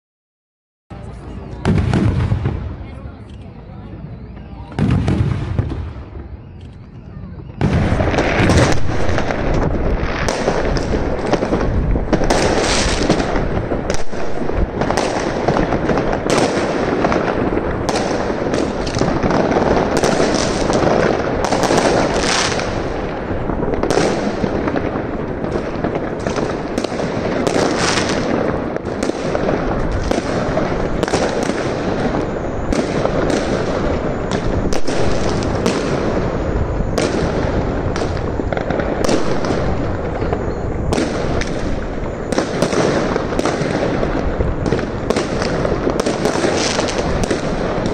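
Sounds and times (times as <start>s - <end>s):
fireworks crackling and popping: 0.9s - 47.9s
fireworks sharp bangs: 0.9s - 47.9s.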